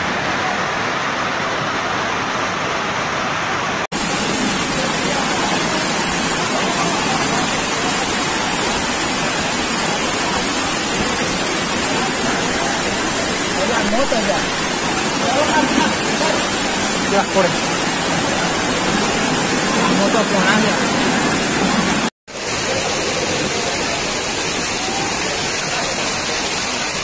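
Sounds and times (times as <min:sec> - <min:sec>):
floodwater rushing down street: 0:00.0 - 0:27.0.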